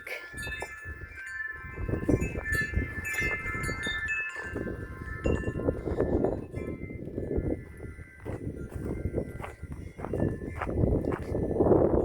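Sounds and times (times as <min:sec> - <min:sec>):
wind chimes ringing: 0:00.0 - 0:12.0
wind rumble on microphone: 0:00.2 - 0:12.0.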